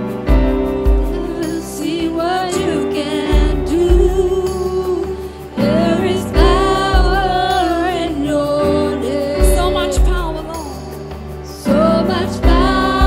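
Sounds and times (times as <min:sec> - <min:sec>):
deep pulsing bass notes: 0:00.0 - 0:13.0
gospel singing: 0:00.0 - 0:13.0.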